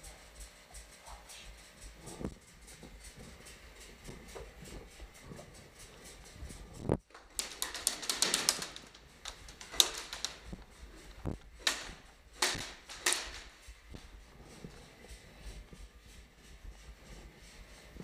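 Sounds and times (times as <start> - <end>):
rapid sharp clicks: 0.0 - 15.6.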